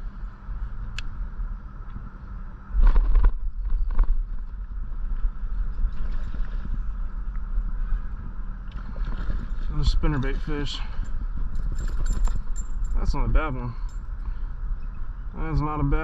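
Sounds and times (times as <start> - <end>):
faint steady hum: 0.0 - 16.0
wind rumbling on microphone: 0.0 - 16.0.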